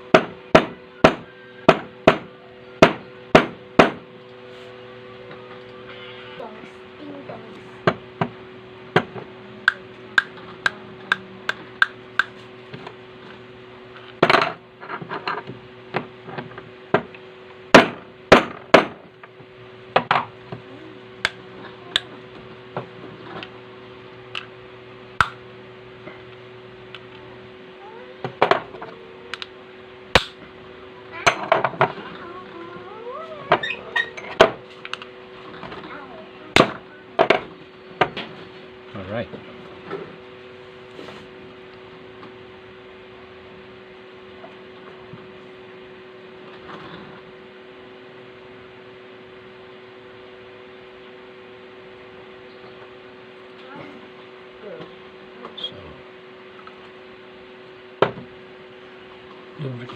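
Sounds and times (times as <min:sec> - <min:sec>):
steady hum: 0:00.0 - 0:59.9.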